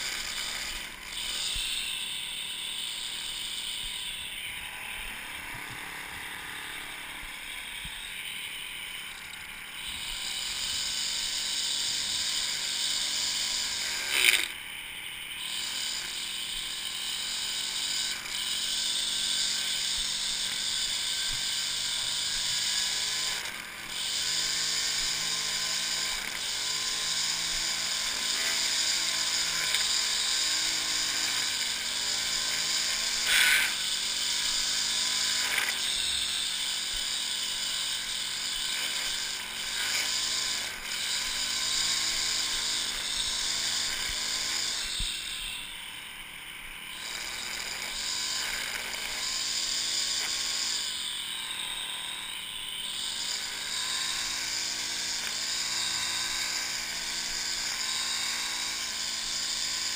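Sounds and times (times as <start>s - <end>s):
string trimmer engine running: 0.0s - 59.9s.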